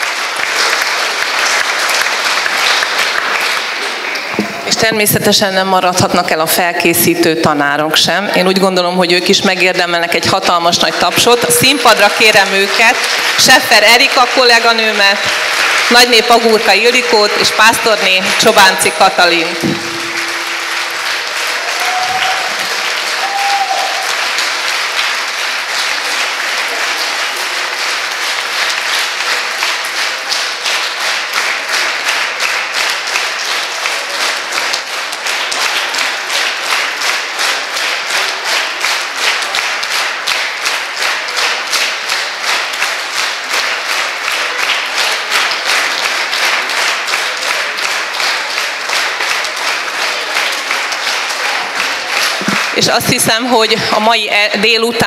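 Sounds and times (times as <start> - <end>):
audience applauding: 0.0 - 6.4, 9.2 - 55.0.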